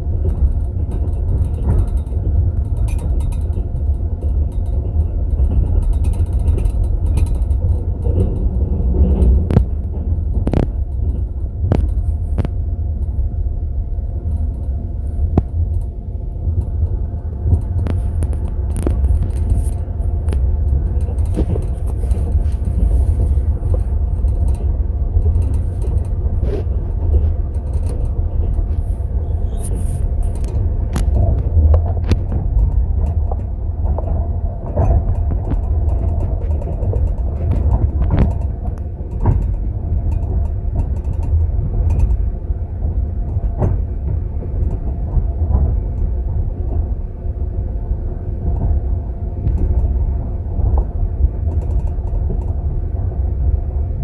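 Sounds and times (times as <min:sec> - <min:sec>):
train coach rumbling on rails: 0:00.0 - 0:54.0.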